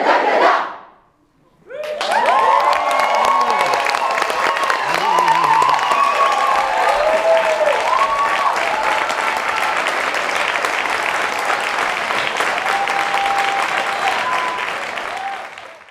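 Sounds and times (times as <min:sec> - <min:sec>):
people cheering: 0:01.6 - 0:15.9
audience applauding: 0:01.7 - 0:15.9.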